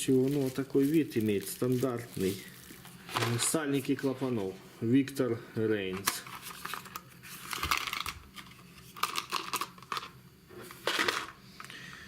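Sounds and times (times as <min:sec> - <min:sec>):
packaging rustling and crinkling: 0:00.0 - 0:04.5, 0:06.0 - 0:11.8.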